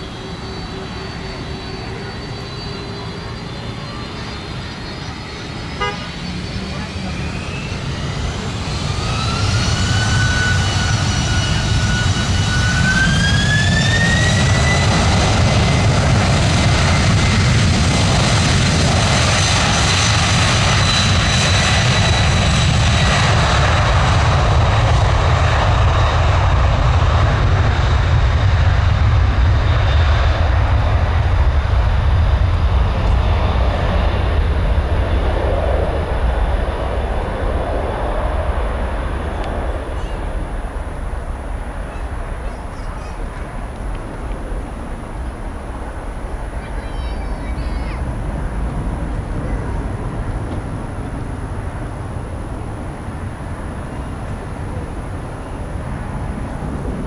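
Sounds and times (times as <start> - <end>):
jet engine whine climbing: 0.0 - 57.0
loud jet engine noise: 0.0 - 57.0.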